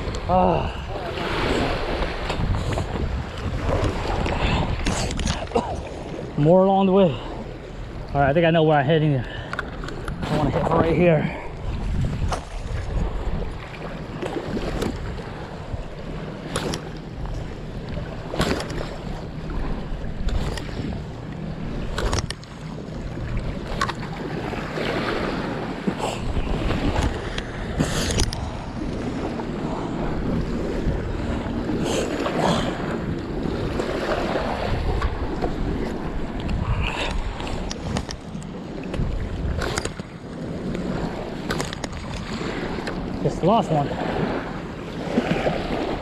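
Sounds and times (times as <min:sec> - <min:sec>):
wind buffeting microphone: 0:00.0 - 0:06.7, 0:07.5 - 0:46.0
small waves on rocky shore: 0:00.0 - 0:46.0.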